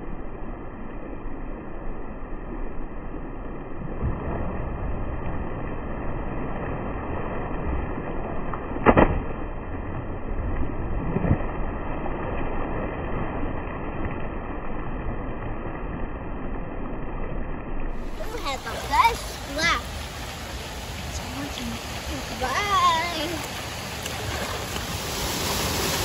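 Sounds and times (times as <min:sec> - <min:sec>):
pool water splashing: 0:00.0 - 0:26.0.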